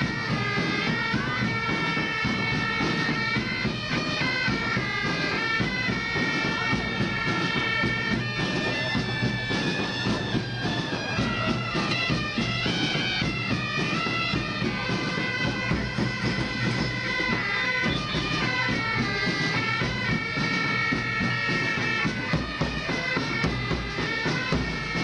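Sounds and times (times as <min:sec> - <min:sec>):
bagpipe drone: 0:00.0 - 0:25.0
bagpipes playing a tune: 0:00.0 - 0:25.0.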